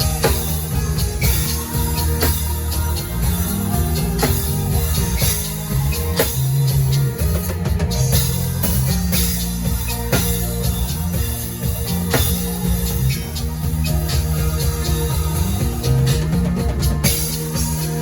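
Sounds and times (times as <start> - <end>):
bass notes: 0.0 - 18.0
drum kit hits: 0.0 - 18.0
keyboard chords: 0.0 - 18.0.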